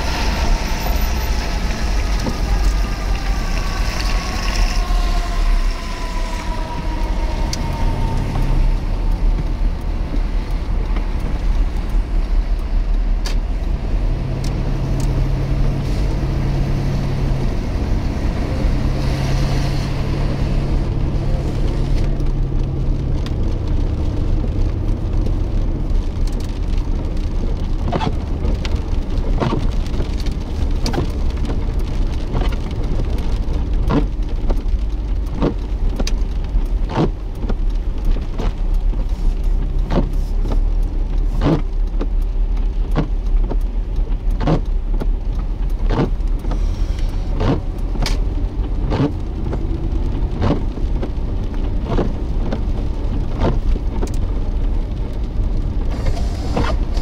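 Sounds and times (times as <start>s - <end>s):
engine and road rumble: 0.0s - 57.0s.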